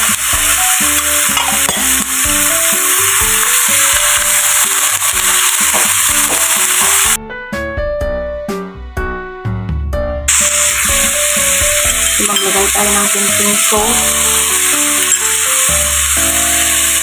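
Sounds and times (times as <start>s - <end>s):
beef sizzling in hot oil: 0.0s - 7.2s, 10.3s - 17.0s
spatula in pan: 0.0s - 7.2s, 10.3s - 17.0s.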